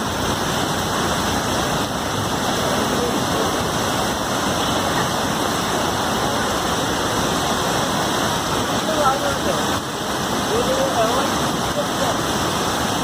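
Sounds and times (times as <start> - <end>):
heavy water rushing: 0.0 - 13.0.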